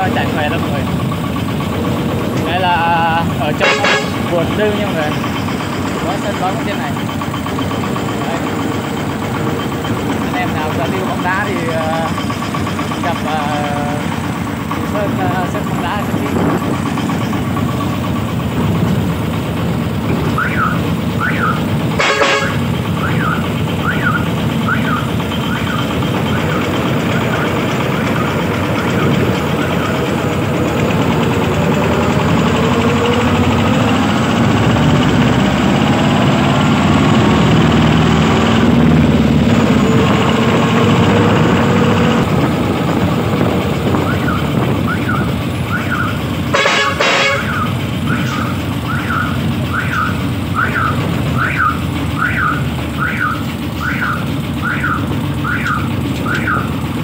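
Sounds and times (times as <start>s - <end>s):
loud diesel truck engine: 0.0s - 57.0s.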